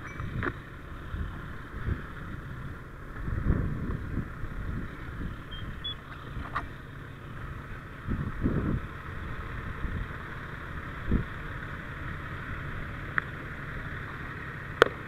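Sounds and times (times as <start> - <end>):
fire engine motor running: 0.0 - 15.0.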